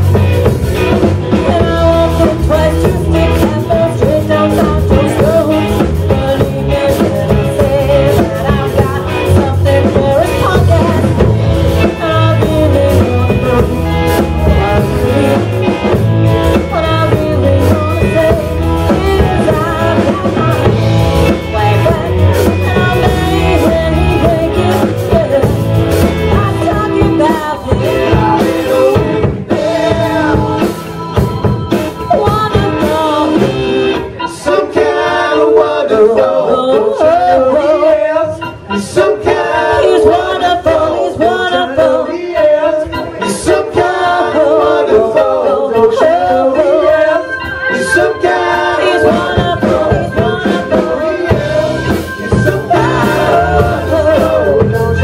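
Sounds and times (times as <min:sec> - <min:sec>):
drums: 0:00.0 - 0:55.0
electric bass: 0:00.0 - 0:55.0
electric guitar: 0:00.0 - 0:55.0
person singing: 0:01.2 - 0:55.0.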